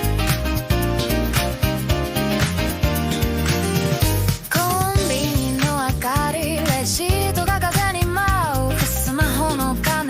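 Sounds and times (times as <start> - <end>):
instrumental jazz fusion music: 0.0 - 10.0.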